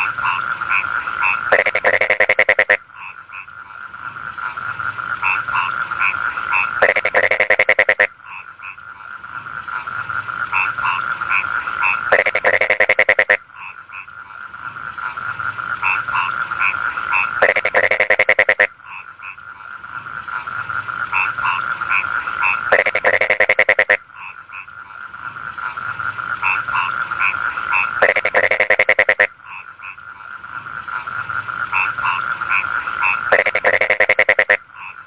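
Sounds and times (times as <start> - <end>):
frog calls: 0.0 - 35.0
frog croaking bursts: 0.0 - 35.0
frogs trilling: 0.0 - 35.0.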